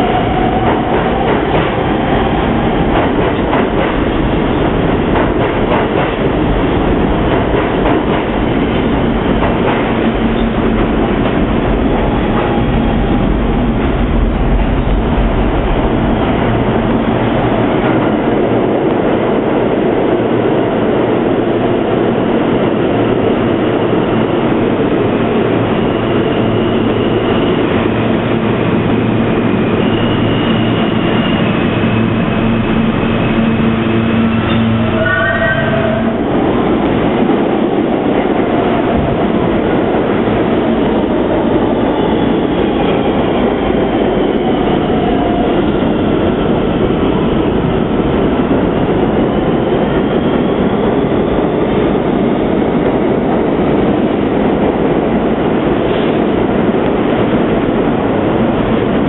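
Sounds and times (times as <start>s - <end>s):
subway wheels rumbling on rail: 0.0s - 59.0s.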